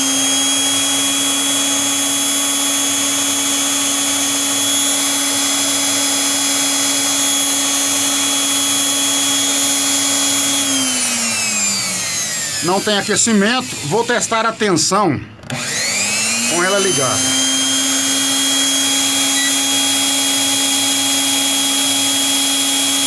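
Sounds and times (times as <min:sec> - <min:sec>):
electric motor whining: 0:00.0 - 0:14.5, 0:15.4 - 0:23.0.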